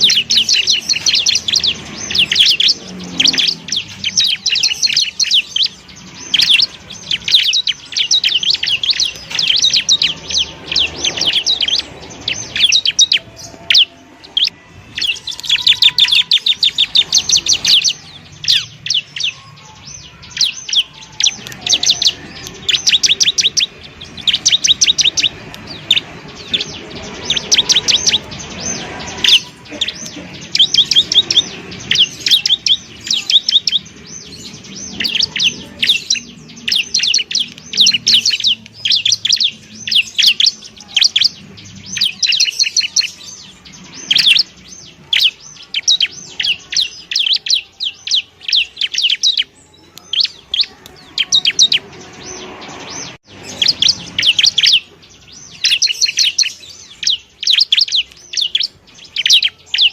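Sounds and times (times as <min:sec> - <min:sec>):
bird singing trilled phrases: 0:00.0 - 0:59.9.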